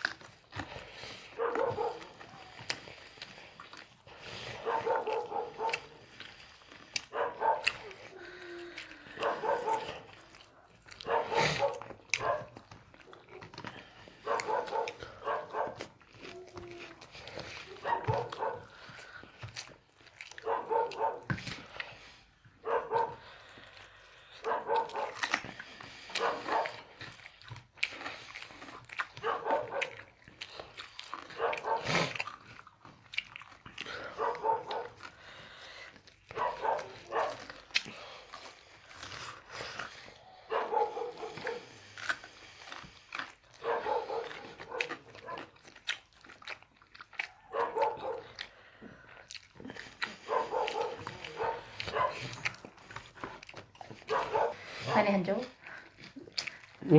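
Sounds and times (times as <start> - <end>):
dog chewing food: 0.0 - 56.9.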